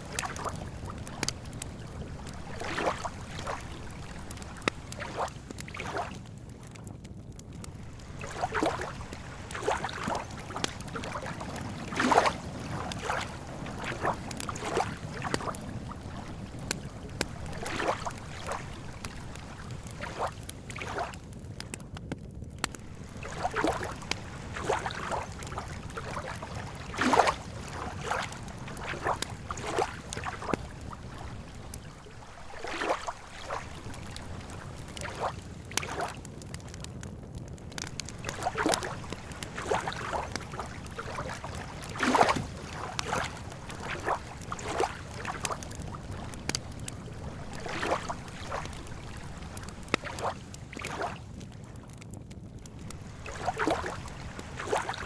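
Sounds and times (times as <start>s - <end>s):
small waves lapping on shore: 0.0s - 6.7s, 7.6s - 21.3s, 22.6s - 36.8s, 37.7s - 52.0s, 52.7s - 55.0s.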